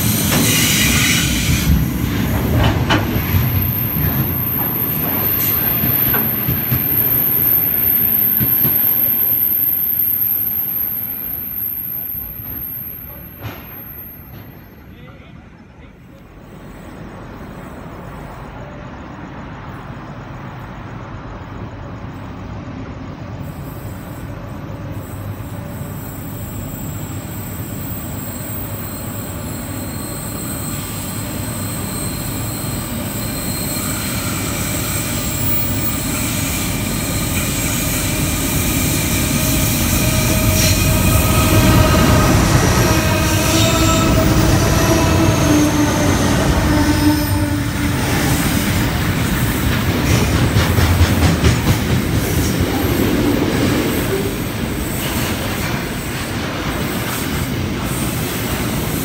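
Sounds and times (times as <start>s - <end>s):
freight train engine drone: 0.0s - 59.0s.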